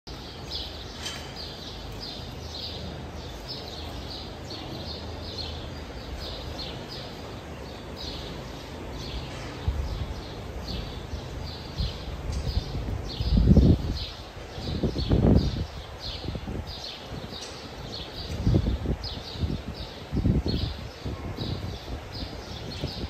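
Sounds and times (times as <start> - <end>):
low steady barn rumble: 0.1 - 23.0.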